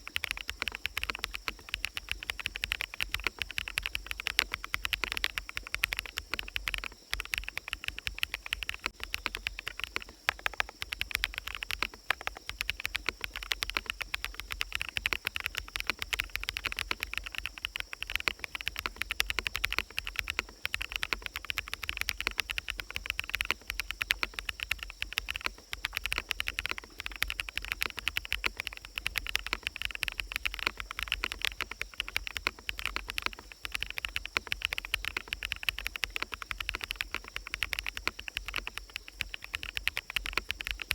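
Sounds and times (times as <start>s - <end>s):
forest ambience: 0.0s - 40.9s
quick mechanical keyboard typing: 0.0s - 40.9s.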